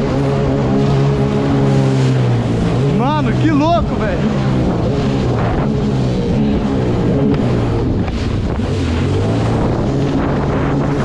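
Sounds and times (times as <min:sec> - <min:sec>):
jet ski engine running: 0:00.0 - 0:11.0
wind buffeting microphone: 0:00.0 - 0:11.0.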